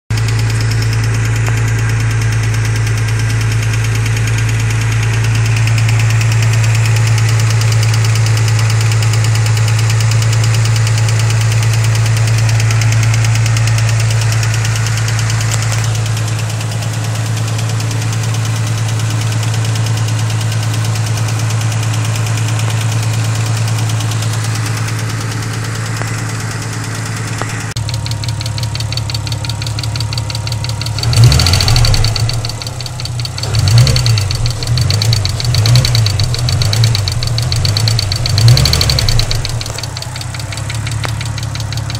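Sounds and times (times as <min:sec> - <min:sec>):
car engine running: 0:00.1 - 0:41.9
engine knocking: 0:00.1 - 0:41.9.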